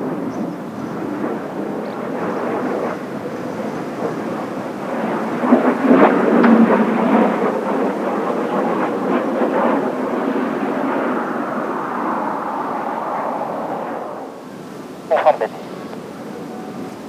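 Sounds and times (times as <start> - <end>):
jets passing with crackling rumble: 0.0 - 17.0.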